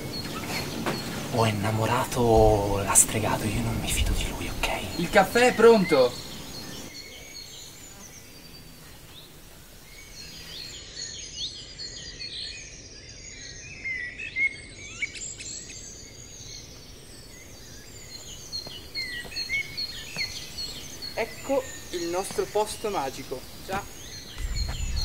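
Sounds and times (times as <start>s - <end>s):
soft background hiss: 0.0s - 11.0s, 15.5s - 25.0s
small birds chirping: 0.0s - 25.0s.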